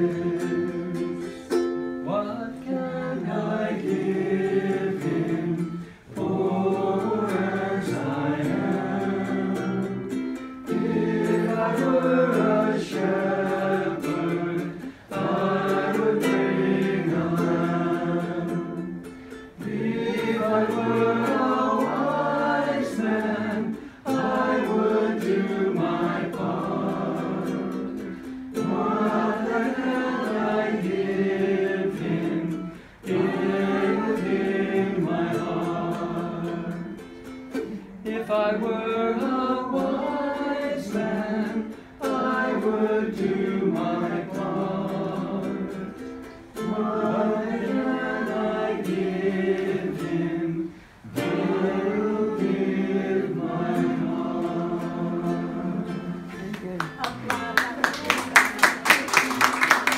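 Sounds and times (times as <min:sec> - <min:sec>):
small string instrument strumming: 0:00.0 - 0:57.5
group singing a christmas song: 0:00.0 - 0:59.9.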